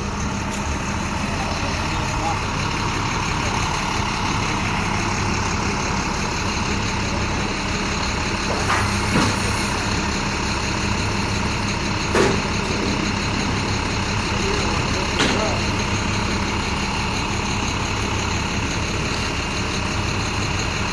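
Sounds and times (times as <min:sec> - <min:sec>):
truck engine idling: 0:00.0 - 0:20.9.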